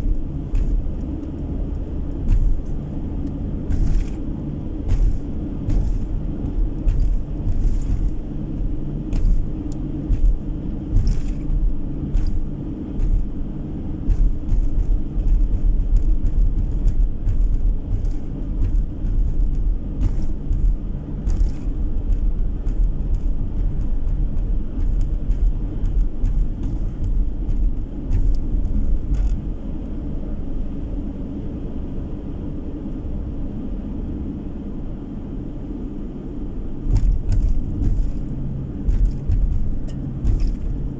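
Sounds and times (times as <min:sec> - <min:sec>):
light knocks and rattles: 0:00.0 - 0:30.1, 0:36.8 - 0:40.9
road and engine rumble inside car: 0:00.0 - 0:40.9.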